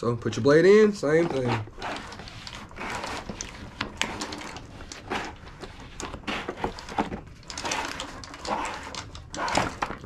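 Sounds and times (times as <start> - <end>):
blade scraping and clicking: 0.8 - 10.0.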